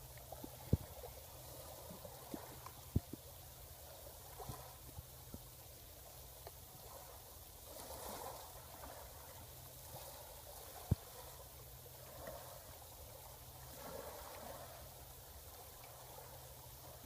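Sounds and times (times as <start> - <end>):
low steady rumble: 0.0 - 17.0
sea waves washing on shore: 0.0 - 17.0.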